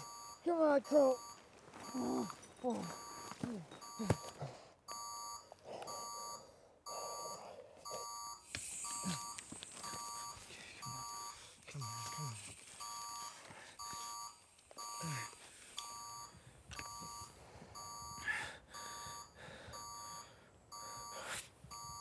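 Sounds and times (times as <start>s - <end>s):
electronic alarm beeping: 0.0s - 22.0s.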